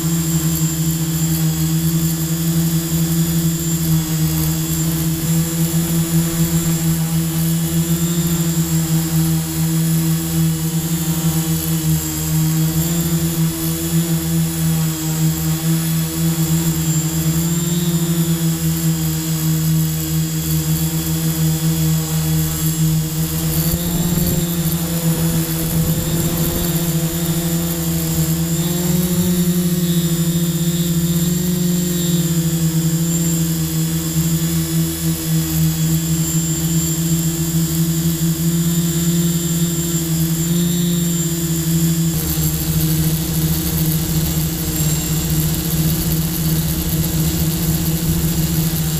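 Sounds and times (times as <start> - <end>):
drone propellers whining: 0.0 - 48.9.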